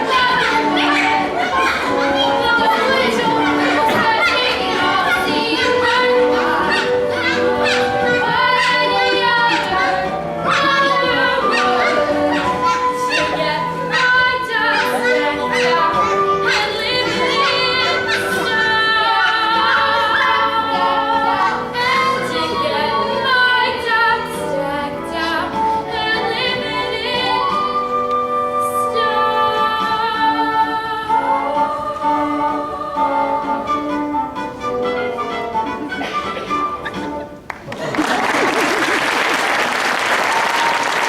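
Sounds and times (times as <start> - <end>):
women singing show tune: 0.0 - 33.7
musical accompaniment: 0.0 - 41.0.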